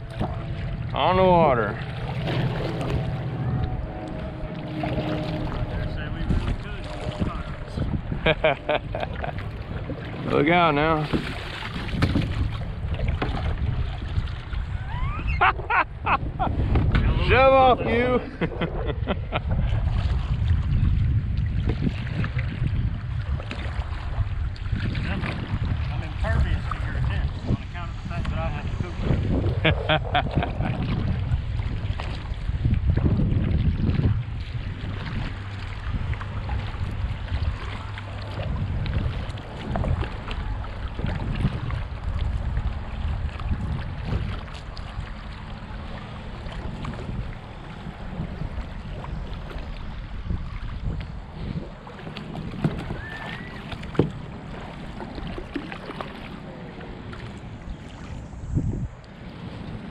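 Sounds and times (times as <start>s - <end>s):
water splashing around kayak: 0.0s - 59.9s
wind buffeting microphone: 0.0s - 59.9s.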